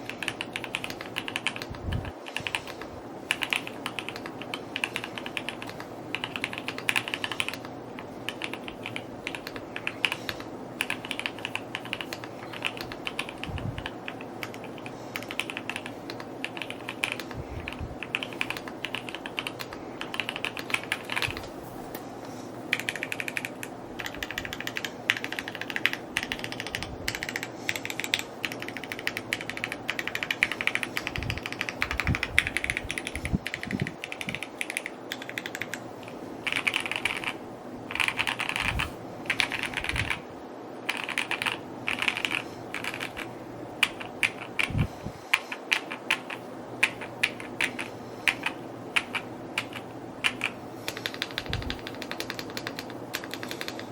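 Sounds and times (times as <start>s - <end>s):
mechanical keyboard typing: 0.0s - 21.5s, 22.7s - 40.2s, 40.9s - 53.9s.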